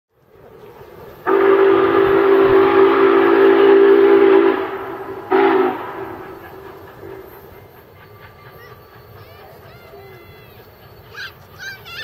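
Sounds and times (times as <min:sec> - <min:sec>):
steam locomotive chime whistle: 0:01.0 - 0:12.0.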